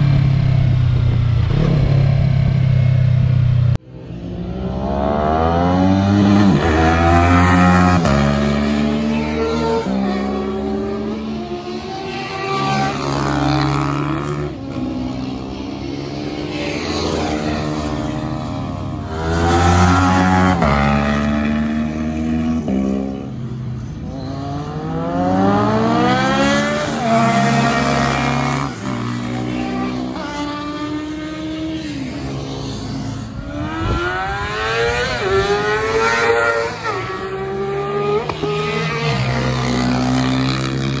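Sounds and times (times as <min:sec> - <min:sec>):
motorcycles accelerating past: 0:03.9 - 0:41.0.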